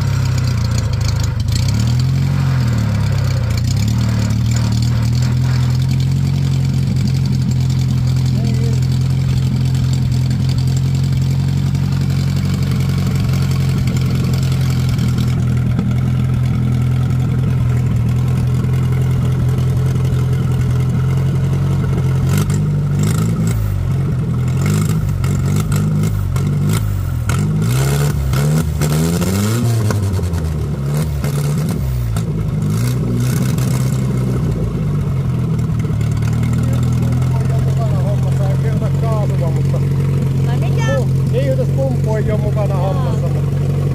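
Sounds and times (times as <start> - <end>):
truck engine idling and revving: 0.0 - 43.9.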